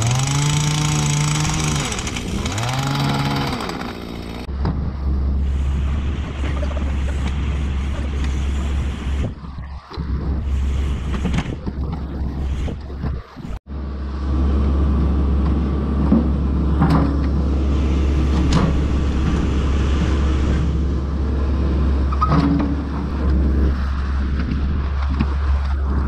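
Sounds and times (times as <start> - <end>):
diesel engine running: 0.0 - 9.4, 13.7 - 26.0.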